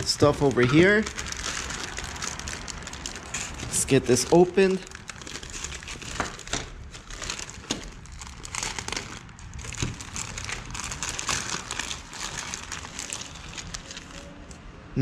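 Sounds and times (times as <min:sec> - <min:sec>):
plastic bags crinkling: 0:00.0 - 0:14.5.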